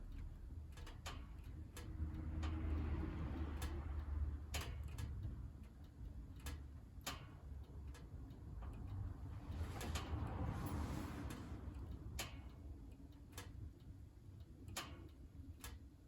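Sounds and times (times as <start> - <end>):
low rumble of fire: 0.0 - 16.0.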